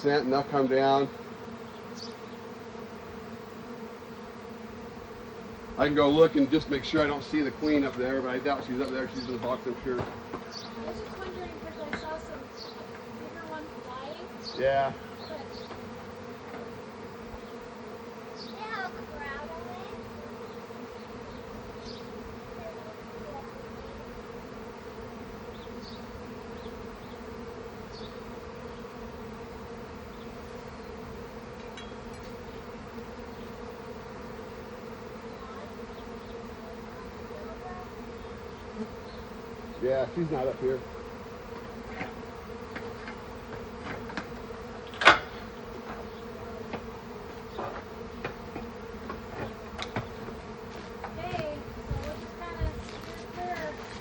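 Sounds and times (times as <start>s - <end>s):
bees buzzing: 0.0s - 54.0s
honeybee swarm humming: 0.0s - 54.0s.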